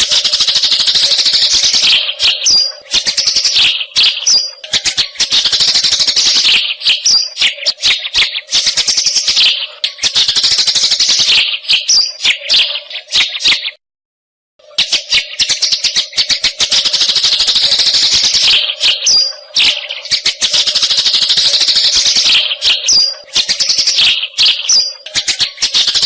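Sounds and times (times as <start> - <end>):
sparrows chattering: 0.0 - 13.8, 14.7 - 26.0.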